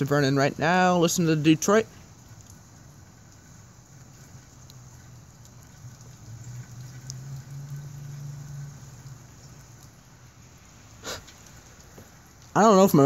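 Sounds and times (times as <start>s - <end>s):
distant diesel engine drone: 0.0s - 13.0s.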